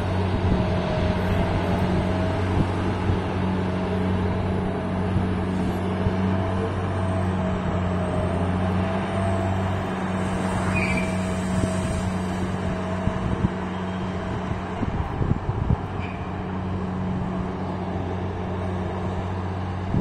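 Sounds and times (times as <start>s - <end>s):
crane engine humming: 0.0s - 20.0s.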